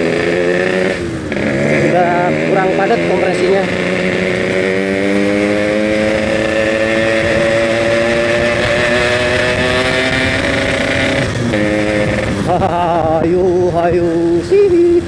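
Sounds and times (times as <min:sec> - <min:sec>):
two-stroke motorcycle engine: 0:00.0 - 0:15.0.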